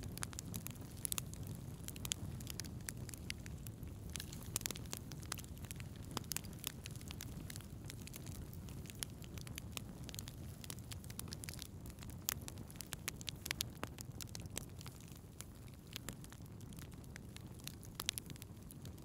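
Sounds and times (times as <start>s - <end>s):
low rumble of burning: 0.0s - 19.0s
wood fire crackling: 0.0s - 19.0s.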